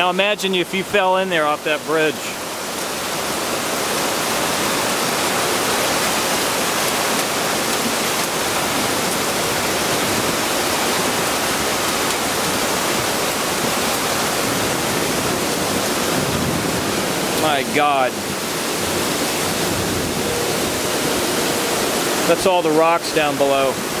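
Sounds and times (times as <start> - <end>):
rushing white water roaring: 0.0 - 24.0.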